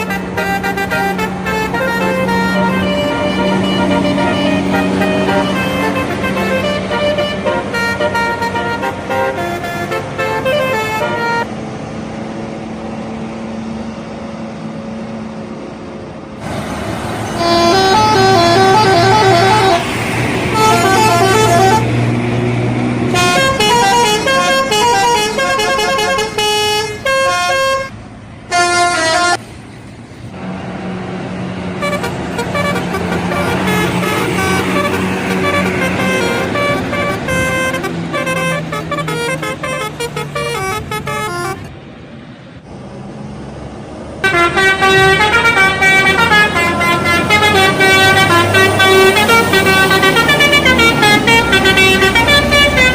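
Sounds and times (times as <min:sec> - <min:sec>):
bus horn playing musical notes: 0:00.0 - 0:11.5, 0:17.2 - 0:29.4, 0:31.7 - 0:41.7, 0:44.2 - 0:52.9
bus engine humming: 0:00.0 - 0:52.9.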